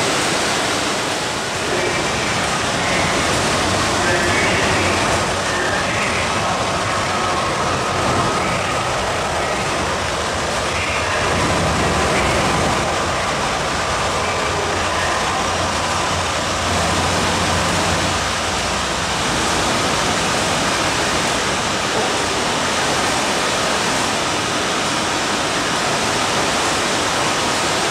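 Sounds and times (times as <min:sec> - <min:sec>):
low train rumble: 0:00.0 - 0:27.9
steady rushing noise: 0:00.0 - 0:27.9.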